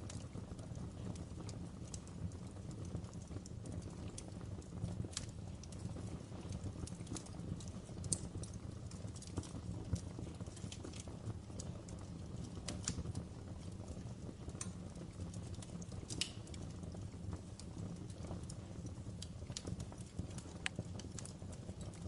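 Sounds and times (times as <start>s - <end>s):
fire crackling and popping: 0.0s - 22.0s
low fire rumble: 0.0s - 22.0s.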